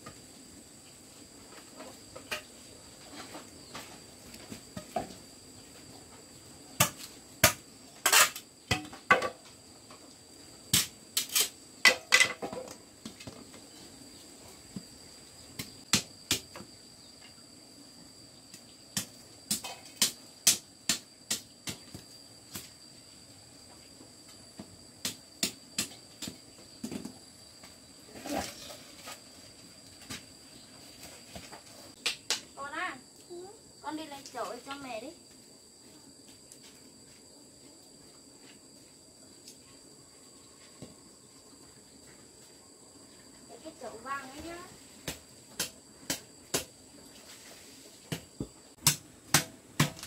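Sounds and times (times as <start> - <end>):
insect buzz: 0.0 - 50.0.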